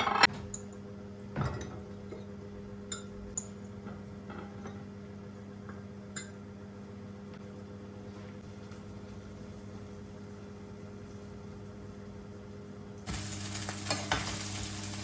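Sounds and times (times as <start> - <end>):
kitchen appliance humming: 0.0 - 7.6, 8.5 - 15.0.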